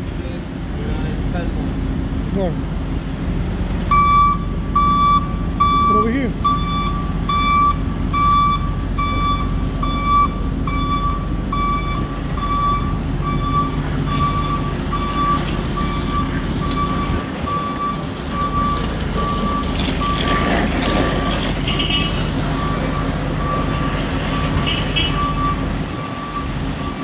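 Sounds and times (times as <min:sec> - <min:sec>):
forklift backup alarm beeping: 0:03.9 - 0:27.0.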